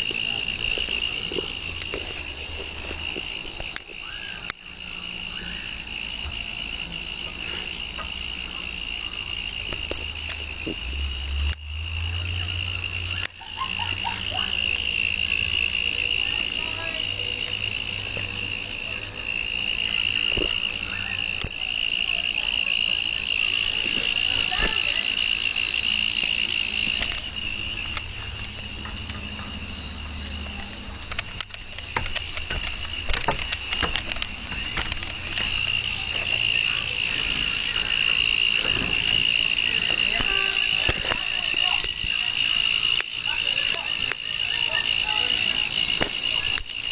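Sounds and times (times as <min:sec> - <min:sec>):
night insects trilling: 0:00.0 - 0:46.9.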